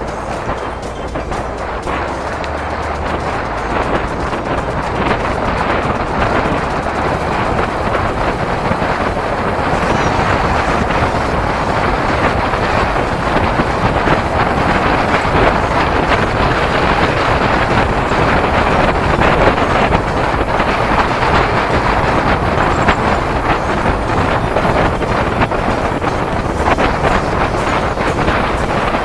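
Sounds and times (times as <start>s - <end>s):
wind rush on microphone: 0.0s - 29.0s.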